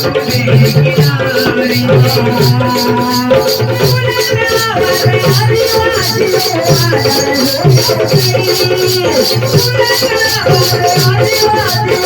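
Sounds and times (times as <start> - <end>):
shaker ticking: 0.0 - 12.0.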